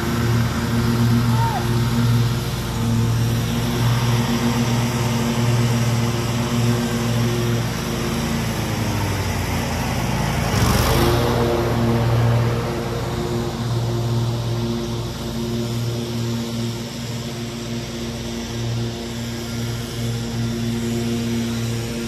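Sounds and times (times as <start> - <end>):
small gas engines running: 0.0 - 22.0.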